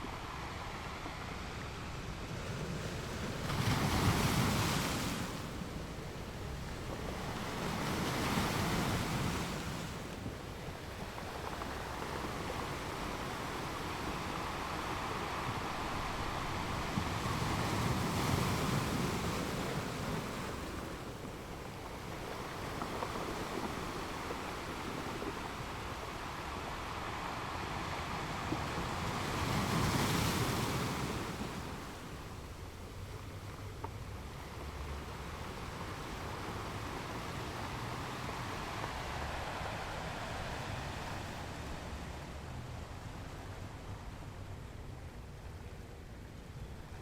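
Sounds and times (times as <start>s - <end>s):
ocean waves washing on shore: 0.0s - 47.0s.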